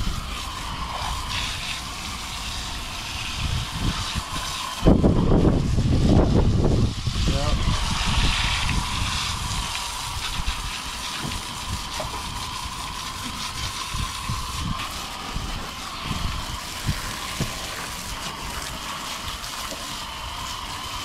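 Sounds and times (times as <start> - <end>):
faint steady whine: 0.0 - 21.0
hose spraying water: 0.0 - 21.0.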